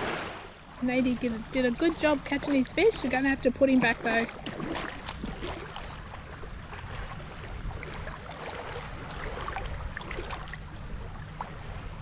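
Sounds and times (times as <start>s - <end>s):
shallow water lapping: 0.0s - 12.0s
steady low rumble: 0.3s - 12.0s
small splashes: 1.2s - 11.8s.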